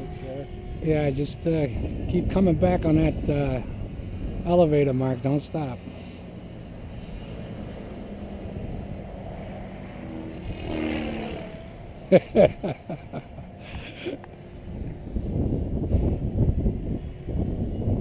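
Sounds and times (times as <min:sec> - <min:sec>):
model helicopter hum: 0:00.0 - 0:18.0.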